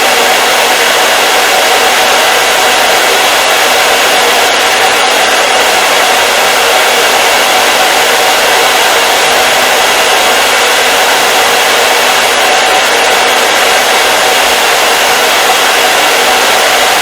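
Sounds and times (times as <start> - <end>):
hair dryer blowing air: 0.0 - 17.0.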